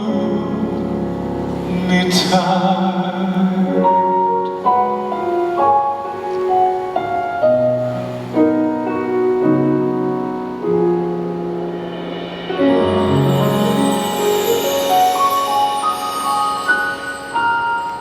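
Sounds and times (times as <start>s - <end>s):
piano playing slow chords: 0.0s - 18.0s.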